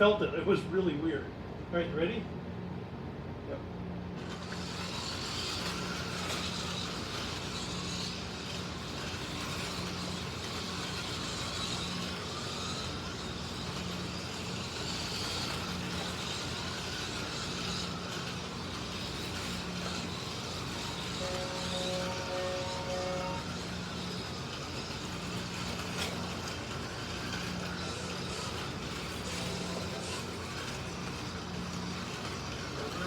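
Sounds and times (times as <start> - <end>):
low hum of passing cars: 0.0 - 33.0
slot car motor whine: 3.5 - 33.0
tyres hissing on track: 4.1 - 33.0.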